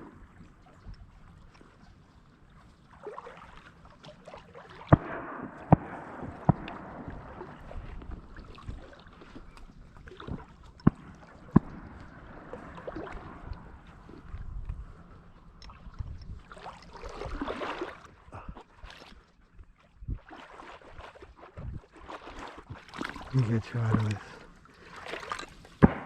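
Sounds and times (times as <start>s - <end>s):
water sloshing: 0.0s - 26.0s.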